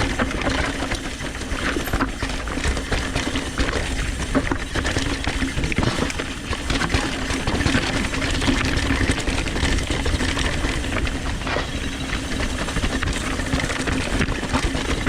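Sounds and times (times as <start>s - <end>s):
bike hub buzzing: 0.0s - 15.0s.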